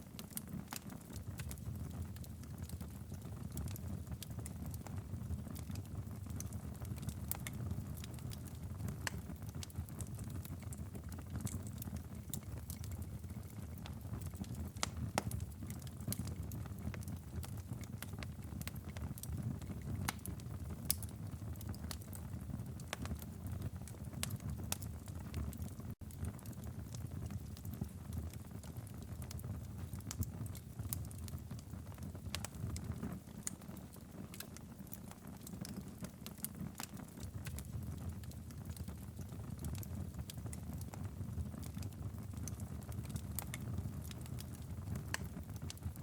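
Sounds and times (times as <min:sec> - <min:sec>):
fire crackling and popping: 0:00.0 - 0:46.0
fire rumbling: 0:00.1 - 0:46.0.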